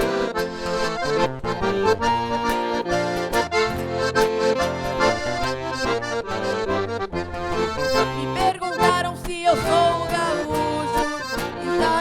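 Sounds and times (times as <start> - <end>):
accordion playing: 0.0 - 12.0.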